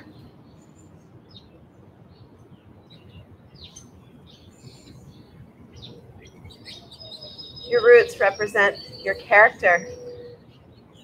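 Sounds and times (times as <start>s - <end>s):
birds chirping faintly: 0.0s - 11.0s
low outdoor background noise: 0.0s - 11.0s.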